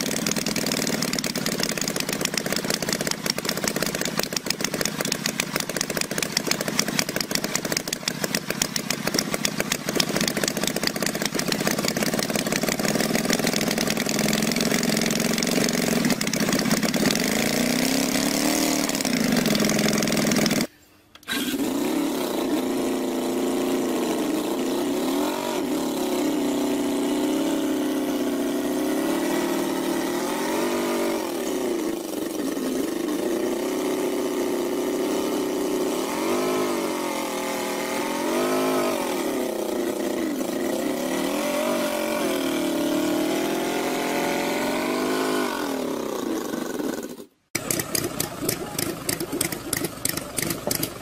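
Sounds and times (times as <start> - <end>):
model engine revving: 0.0 - 51.0.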